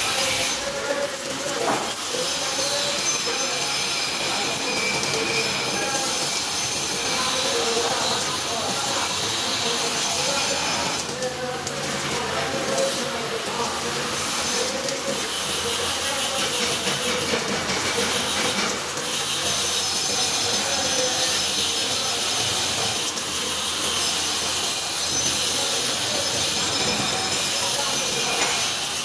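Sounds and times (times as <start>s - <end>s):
welding arc crackling and hissing: 0.0s - 29.0s.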